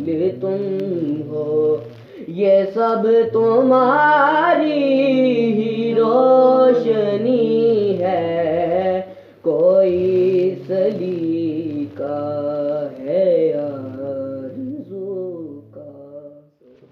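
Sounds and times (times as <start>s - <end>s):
person singing devotional song: 0.0s - 16.9s.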